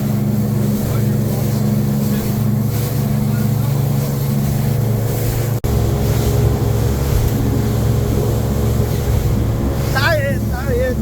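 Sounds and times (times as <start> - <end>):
boat motor running: 0.0 - 11.0
wind buffeting microphone: 0.0 - 11.0.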